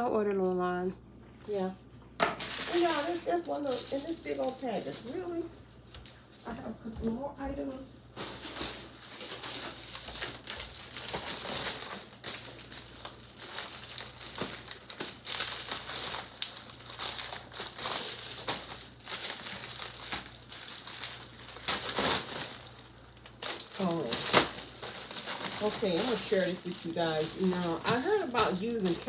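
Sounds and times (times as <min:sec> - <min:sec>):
plastic packaging crinkling: 0:02.3 - 0:06.8, 0:07.6 - 0:29.0.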